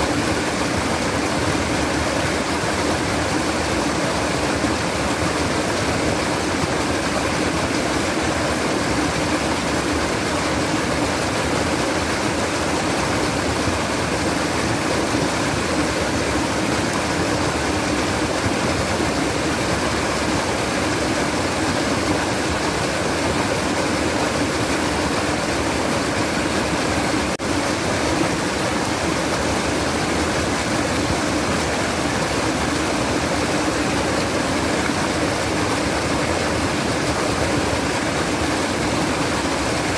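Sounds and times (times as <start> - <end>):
stream babbling and trickling: 0.0 - 39.9.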